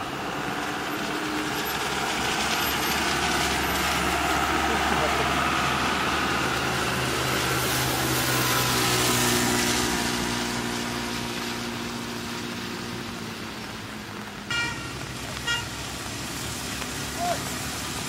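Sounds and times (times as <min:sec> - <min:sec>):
road vehicle engine hum: 0:00.0 - 0:18.0.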